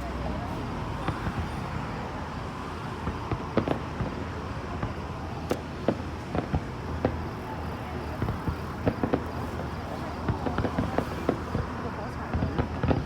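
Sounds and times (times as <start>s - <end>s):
fireworks popping and banging: 0.0s - 13.0s
steady background noise: 0.0s - 13.0s.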